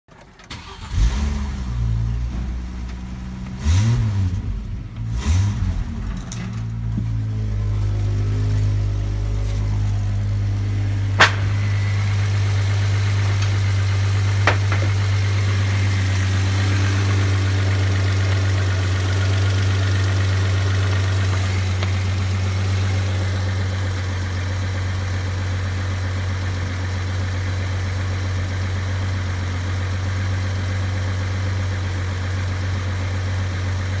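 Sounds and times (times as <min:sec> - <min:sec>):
car engine idling: 0:00.2 - 0:34.0.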